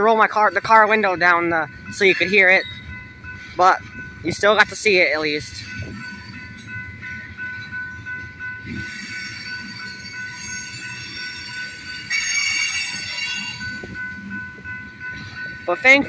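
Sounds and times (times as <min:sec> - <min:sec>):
muffled train rumble: 0:00.0 - 0:16.0.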